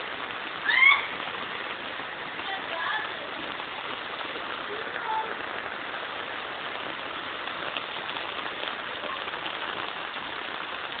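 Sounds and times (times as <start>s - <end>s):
rain falling: 0.0s - 11.0s
raindrop ticks: 0.0s - 11.0s.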